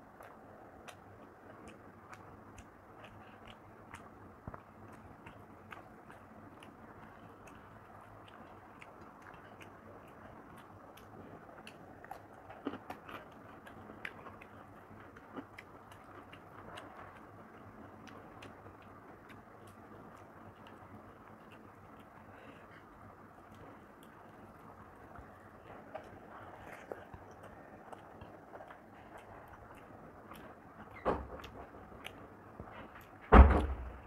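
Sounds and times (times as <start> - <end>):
fingers mixing rice on a plate: 0.0 - 33.2
chewing with wet mouth clicks: 0.0 - 33.8.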